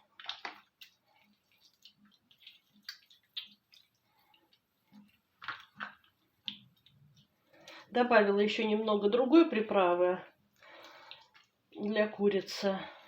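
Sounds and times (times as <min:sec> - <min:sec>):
wet squelches of raw chicken: 0:00.0 - 0:08.9, 0:10.3 - 0:13.0.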